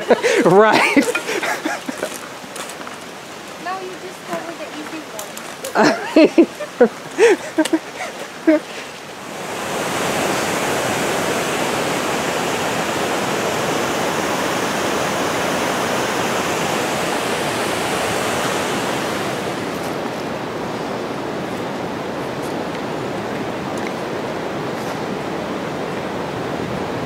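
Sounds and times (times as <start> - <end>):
fast-flowing water rushing: 0.0 - 27.0.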